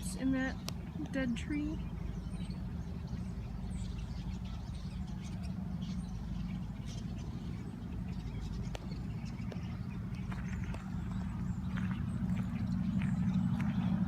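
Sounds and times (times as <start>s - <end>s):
birds chirping: 0.0s - 14.0s
distant road traffic rumble: 0.0s - 14.0s.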